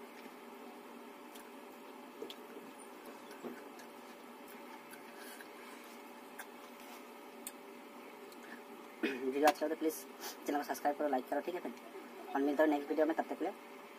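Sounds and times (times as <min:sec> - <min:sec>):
faint hum: 0:00.0 - 0:13.9.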